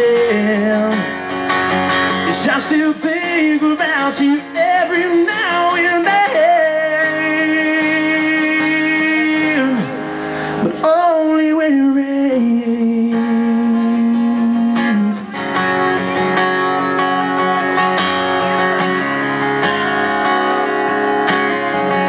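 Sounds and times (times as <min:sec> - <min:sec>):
live country band playing: 0:00.0 - 0:22.0
strummed guitars: 0:00.0 - 0:22.0.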